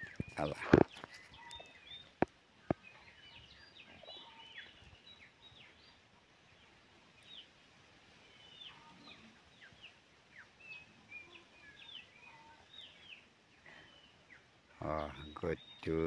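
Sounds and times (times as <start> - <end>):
faint birdsong chirps: 0.0 - 16.0.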